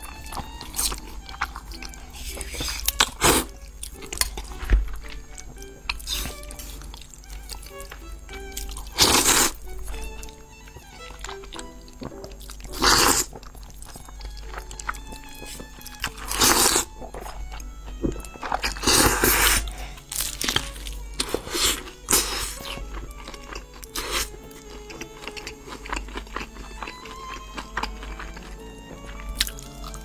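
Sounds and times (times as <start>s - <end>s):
background music: 0.0s - 30.0s
chewing: 0.0s - 30.0s
crunching bites of fried chicken: 0.0s - 30.0s.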